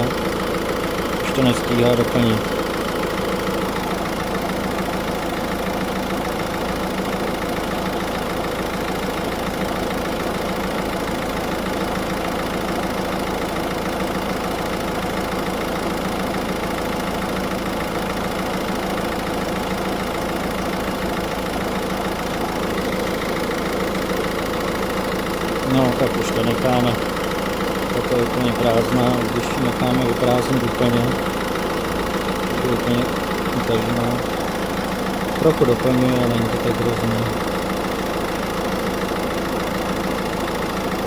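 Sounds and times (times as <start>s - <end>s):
air-conditioning compressor running: 0.0s - 41.0s
car engine idling: 0.0s - 41.0s.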